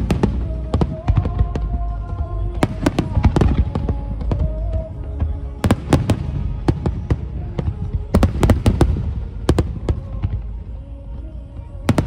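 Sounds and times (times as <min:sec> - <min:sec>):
fireworks bangs and crackles: 0:00.0 - 0:12.0
music with held notes: 0:00.0 - 0:12.0.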